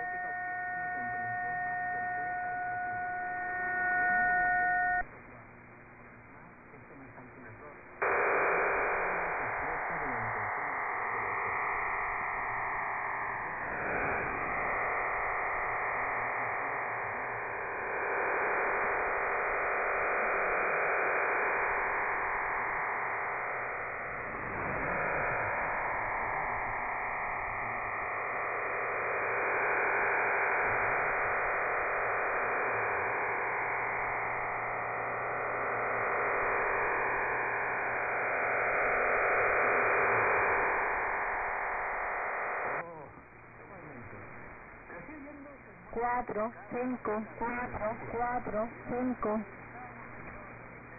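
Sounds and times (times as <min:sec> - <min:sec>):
dense rushing radio noise: 0:00.0 - 0:50.9.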